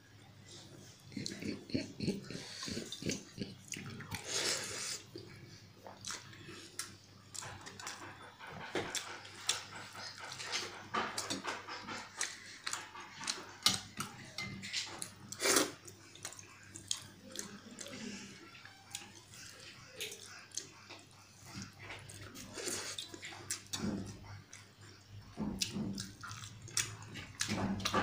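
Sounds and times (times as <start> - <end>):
wet chewing and smacking: 1.1 - 28.0.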